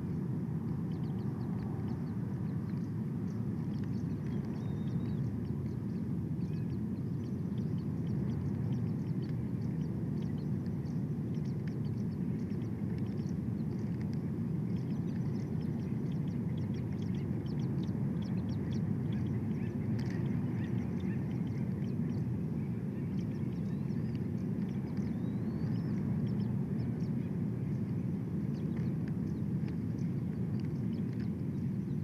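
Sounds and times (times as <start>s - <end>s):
low outdoor rumble: 0.0s - 32.0s
faint high bird chirps: 0.9s - 14.0s, 14.7s - 32.0s.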